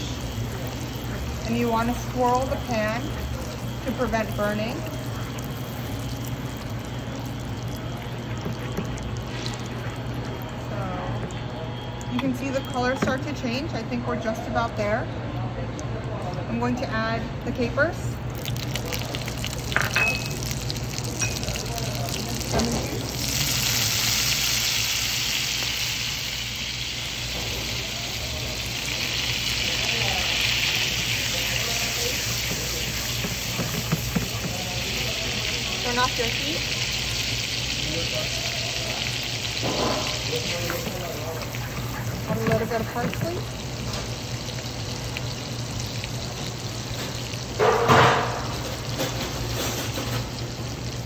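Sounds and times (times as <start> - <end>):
food sizzling in butter: 0.0 - 13.7, 18.2 - 51.0.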